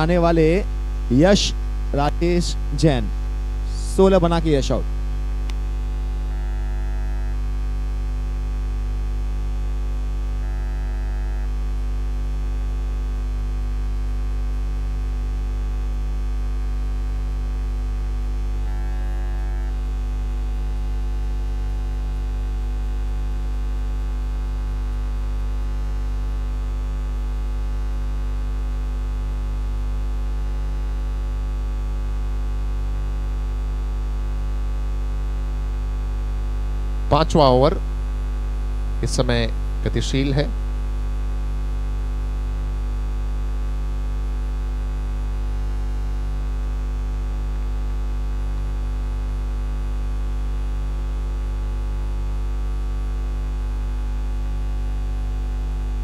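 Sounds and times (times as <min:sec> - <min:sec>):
electrical mains hum with hiss: 0:00.0 - 0:56.0.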